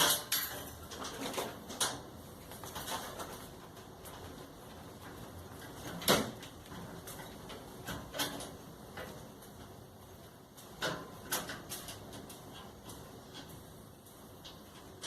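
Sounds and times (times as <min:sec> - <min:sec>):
dryer parts knocking and clattering: 0:00.0 - 0:15.0.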